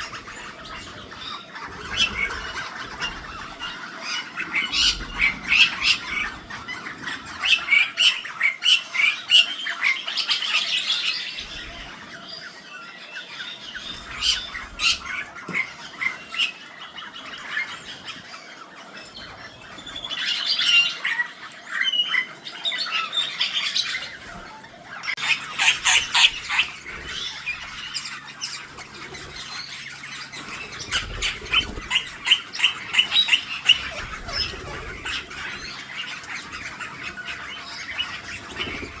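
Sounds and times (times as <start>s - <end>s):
parakeet chatter: 0.0s - 39.0s
parakeets calling: 0.0s - 39.0s.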